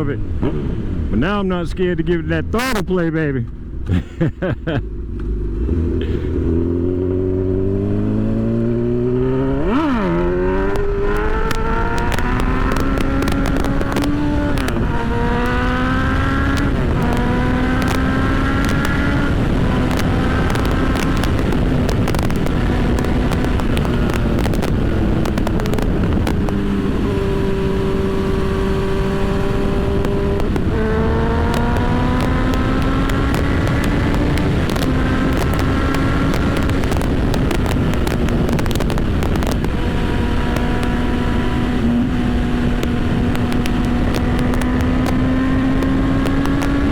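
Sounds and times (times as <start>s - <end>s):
motorcycle engine accelerating: 0.0s - 1.2s, 3.5s - 46.9s
wind buffeting microphone: 5.6s - 46.9s.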